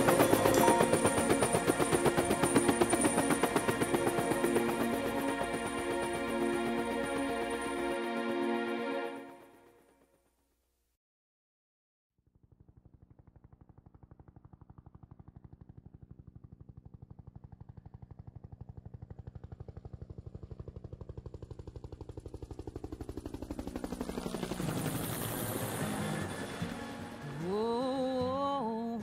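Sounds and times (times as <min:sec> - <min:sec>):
helicopter rotor blades whopping: 0:00.0 - 0:09.6, 0:12.6 - 0:28.2.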